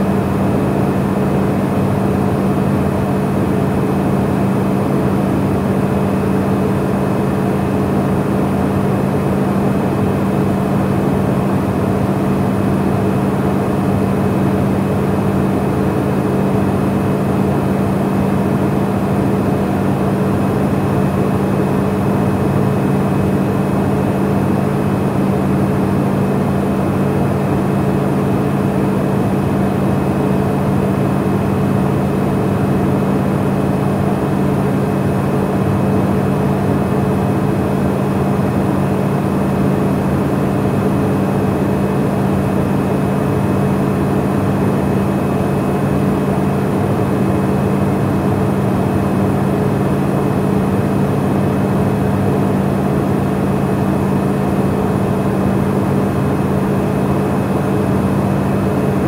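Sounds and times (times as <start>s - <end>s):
turboprop engine drone: 0.0s - 59.0s.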